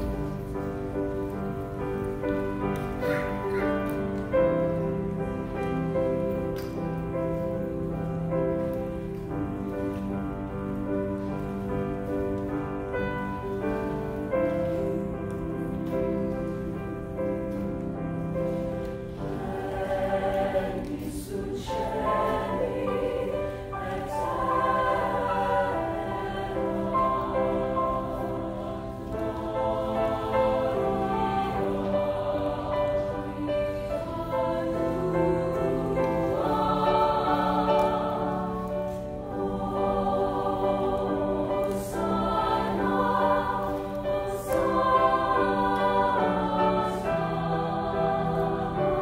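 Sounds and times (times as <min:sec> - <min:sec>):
choir singing chords: 0:00.0 - 0:49.0
piano accompaniment: 0:00.0 - 0:49.0.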